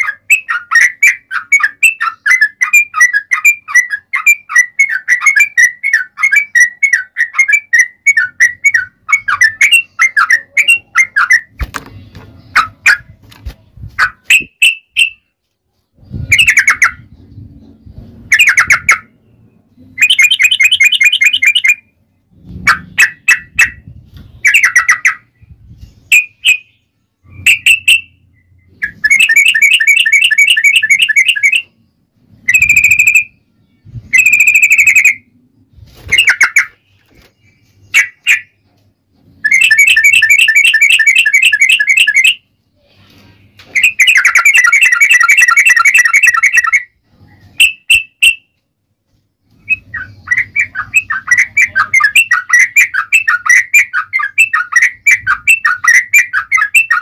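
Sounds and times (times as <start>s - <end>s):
bird chirps and rolling trills: 0.0s - 42.7s, 43.3s - 57.0s.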